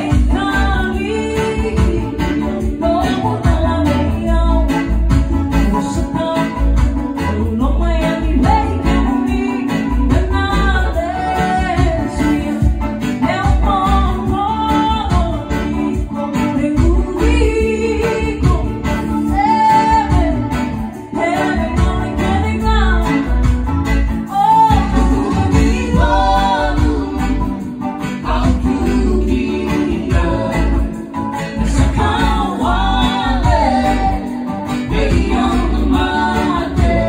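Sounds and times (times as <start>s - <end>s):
person singing: 0.0s - 23.4s, 24.2s - 37.0s
guitar: 0.0s - 37.0s.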